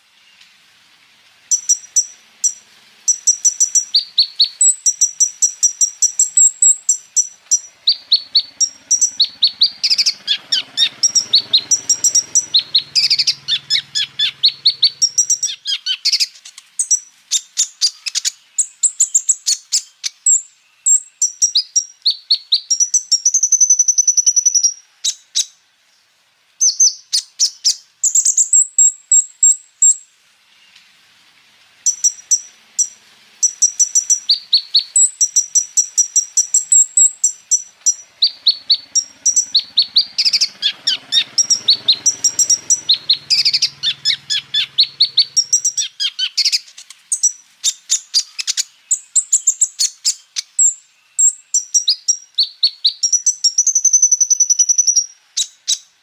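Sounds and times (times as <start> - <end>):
sunbird singing rapid chirps: 0.0 - 56.0.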